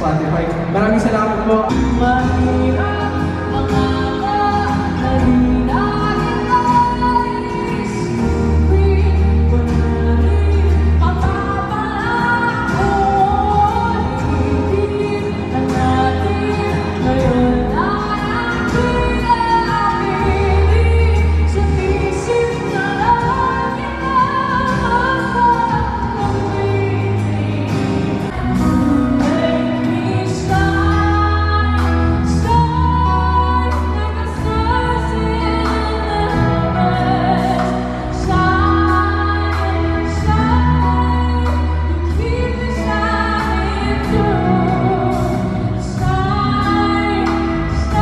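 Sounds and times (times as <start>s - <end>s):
amplified instrumental accompaniment: 0.0s - 48.0s
woman singing into a microphone: 1.7s - 48.0s.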